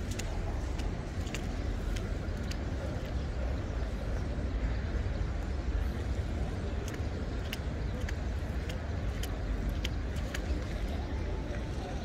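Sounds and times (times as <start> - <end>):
distant traffic rumble: 0.0 - 12.0
wind: 0.0 - 12.0.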